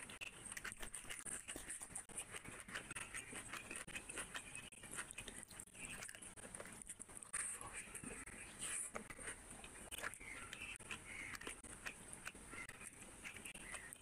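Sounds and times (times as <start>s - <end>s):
chewing and wet mouth noises: 0.0s - 14.0s.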